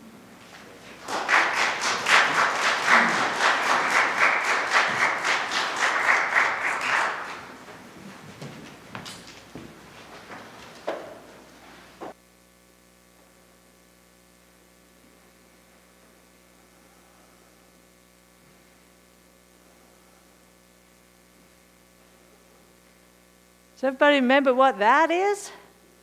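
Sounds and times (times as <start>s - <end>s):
electrical mains hum: 0.0s - 26.0s
room noise: 0.0s - 26.0s.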